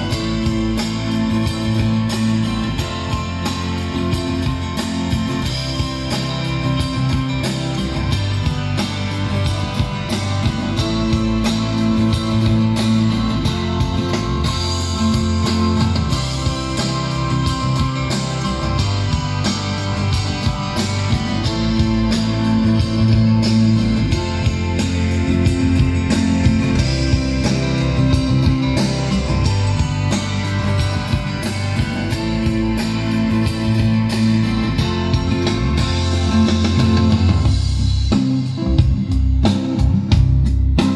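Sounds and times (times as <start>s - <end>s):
music with heavy bass beat: 0.0s - 40.9s.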